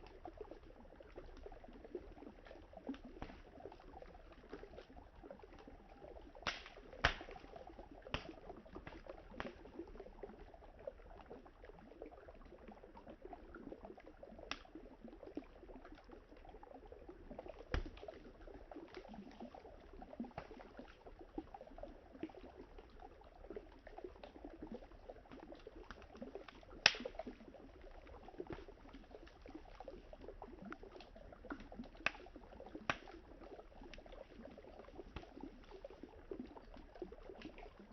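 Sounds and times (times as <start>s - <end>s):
campfire crackling and popping: 0.0s - 10.4s, 13.2s - 15.6s, 16.4s - 37.9s.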